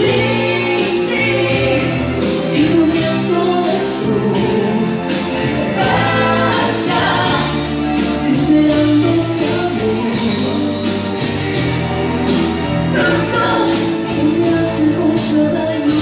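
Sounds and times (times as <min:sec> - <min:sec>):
woman singing into a microphone: 0:00.0 - 0:05.1, 0:05.7 - 0:10.8, 0:12.9 - 0:16.0
amplified pop ballad accompaniment: 0:00.0 - 0:16.0.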